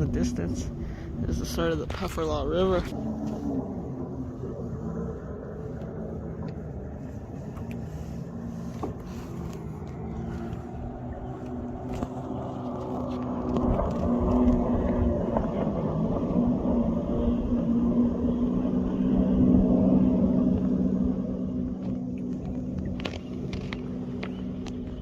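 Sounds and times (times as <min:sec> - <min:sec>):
distant motorboat engine droning: 0:00.0 - 0:25.0.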